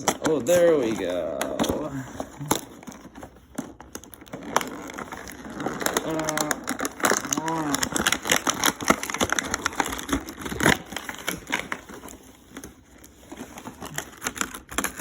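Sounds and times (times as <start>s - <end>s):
plastic and cardboard packaging crackling: 0.0s - 15.0s.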